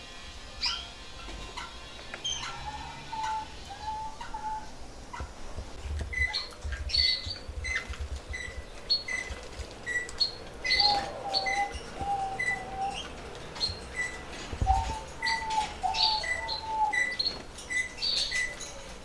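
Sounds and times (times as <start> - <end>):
canaries chirping: 0.5 - 19.0
birds clicking in cages: 0.6 - 19.0.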